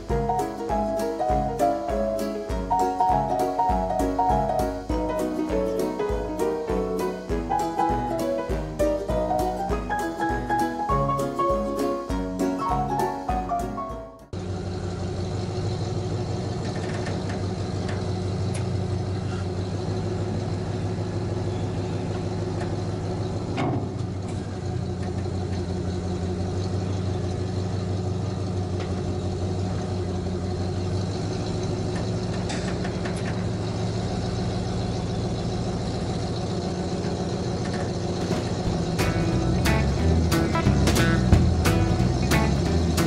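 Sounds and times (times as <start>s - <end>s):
truck engine idling: 0.0s - 43.0s.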